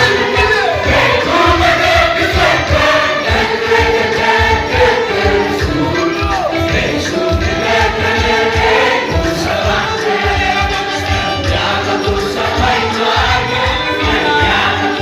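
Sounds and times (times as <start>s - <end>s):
choir singing gospel song: 0.0s - 15.0s
driving drum beat: 0.0s - 15.0s.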